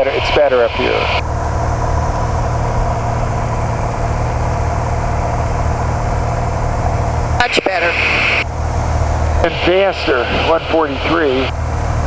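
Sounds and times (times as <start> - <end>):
light airplane engine drone: 0.0 - 12.0.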